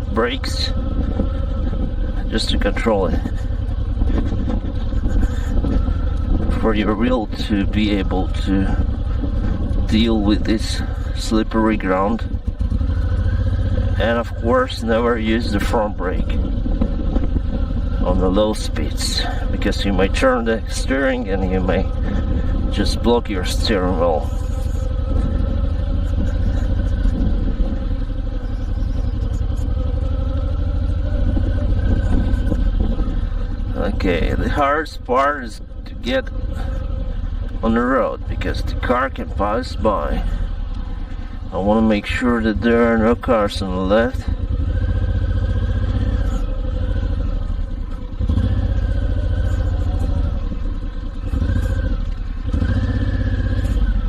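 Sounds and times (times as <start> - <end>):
motorcycle engine throbbing: 0.0 - 54.0.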